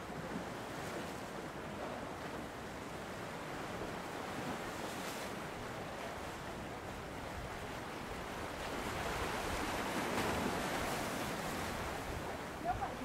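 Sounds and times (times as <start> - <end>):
sea surf washing ashore: 1.7 - 13.0.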